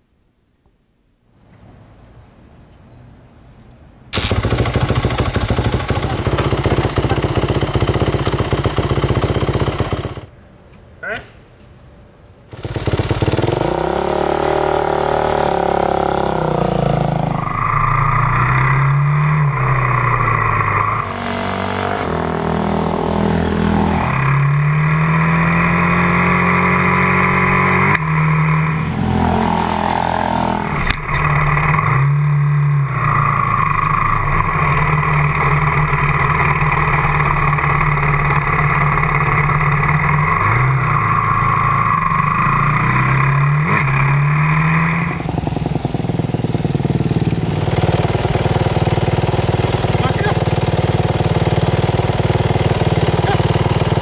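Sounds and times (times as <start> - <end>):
dirt bike engine accelerating: 4.1 - 10.3, 12.5 - 54.0.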